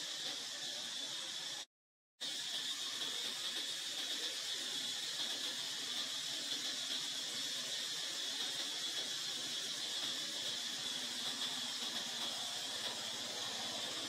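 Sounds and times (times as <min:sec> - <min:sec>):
high-pitched outdoor hiss: 0:00.0 - 0:14.0.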